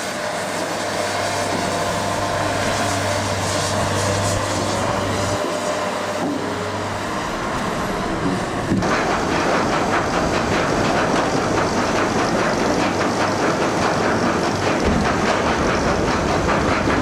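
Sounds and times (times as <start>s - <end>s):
sawmill machinery clatter: 0.0s - 17.0s.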